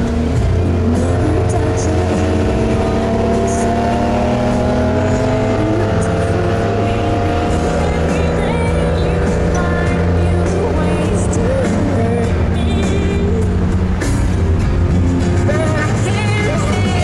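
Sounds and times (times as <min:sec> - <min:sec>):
car engine pulling: 0:00.0 - 0:17.0
road and tyre noise: 0:00.0 - 0:17.0.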